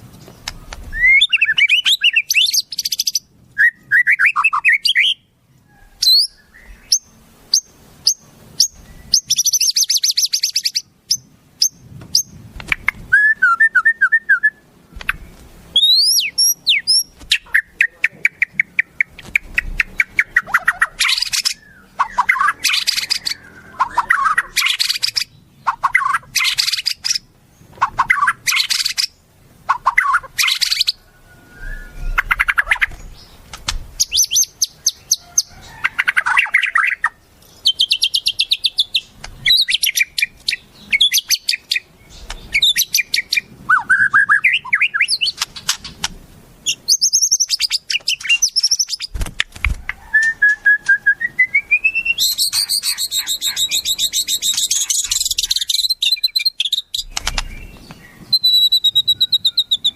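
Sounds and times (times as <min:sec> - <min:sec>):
songbird whistles and trills: 0:00.2 - 0:59.9.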